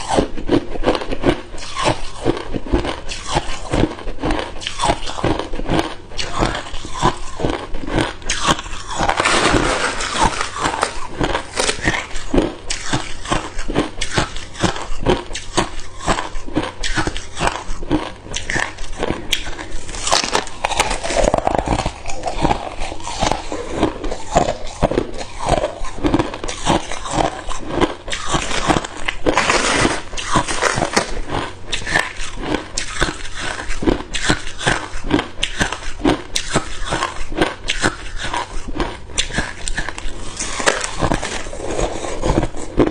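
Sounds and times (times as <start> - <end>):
ice cubes being chewed: 0.0 - 42.9.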